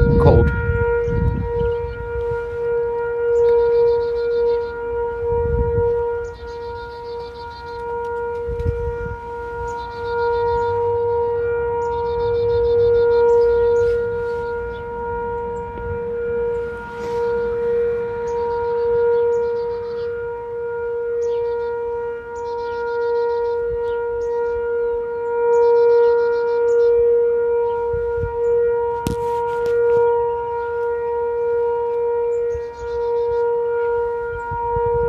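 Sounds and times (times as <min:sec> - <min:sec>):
warning siren wail: 0:00.0 - 0:35.0.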